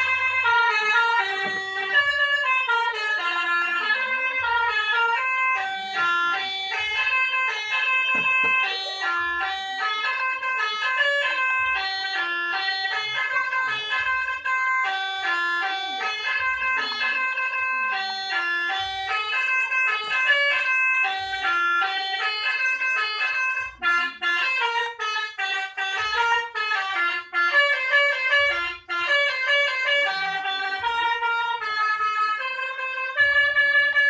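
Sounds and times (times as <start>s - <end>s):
bus horn melody: 0.0s - 34.0s.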